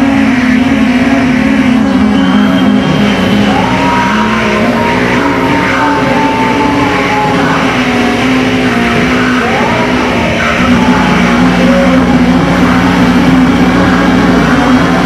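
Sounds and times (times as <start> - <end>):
noise music with droning tones: 0.0 - 15.0.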